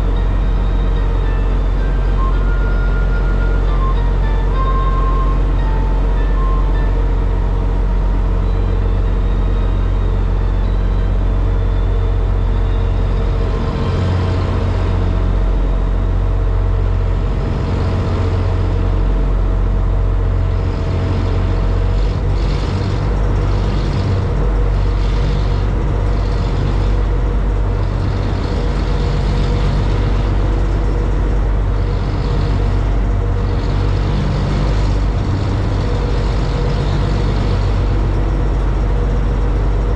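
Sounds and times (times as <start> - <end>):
boat engines droning: 0.0 - 39.9.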